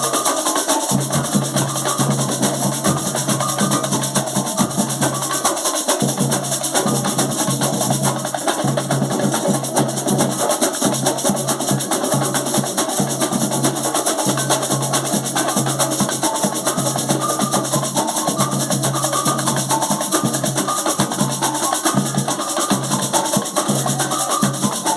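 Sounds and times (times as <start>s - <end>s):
dense quick percussion: 0.0s - 24.9s.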